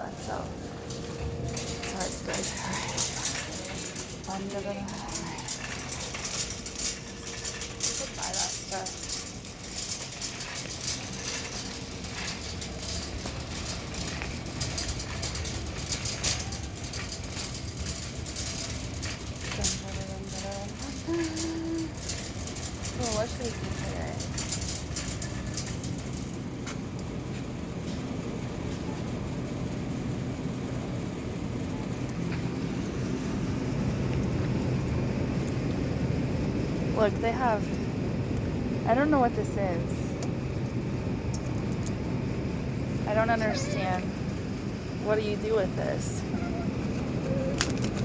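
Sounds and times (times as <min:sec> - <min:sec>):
shopping cart rattling: 0:00.0 - 0:27.5, 0:31.7 - 0:38.0, 0:38.8 - 0:48.0
store background rumble: 0:00.0 - 0:48.0.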